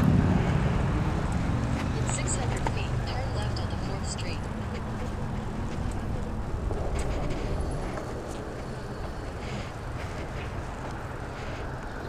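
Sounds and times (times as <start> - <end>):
tyres rolling on pavement: 0.0 - 12.0
wind rush: 0.0 - 12.0.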